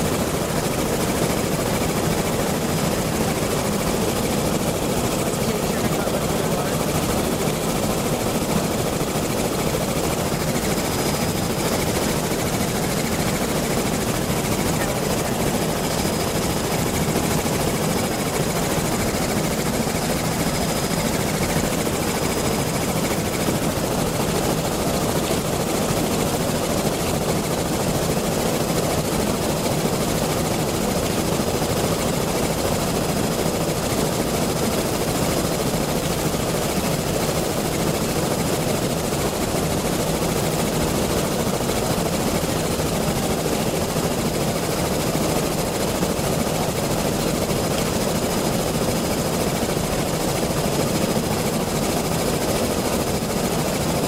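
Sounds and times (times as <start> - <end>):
helicopter drone from inside: 0.0 - 54.0.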